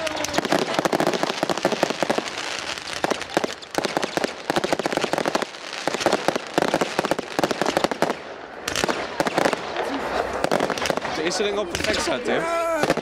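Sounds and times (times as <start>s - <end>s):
fireworks pops and bangs: 0.0s - 13.0s.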